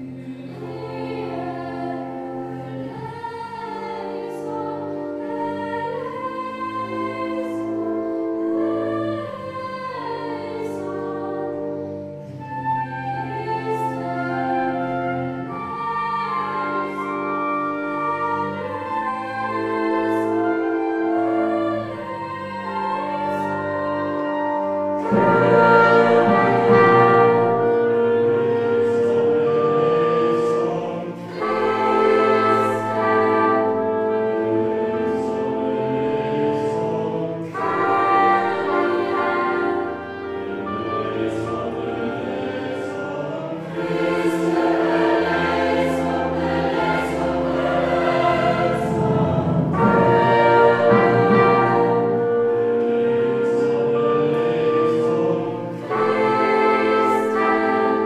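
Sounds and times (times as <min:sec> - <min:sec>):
chamber ensemble with brass: 0:00.0 - 0:58.0
choir singing sustained chords: 0:00.0 - 0:58.0.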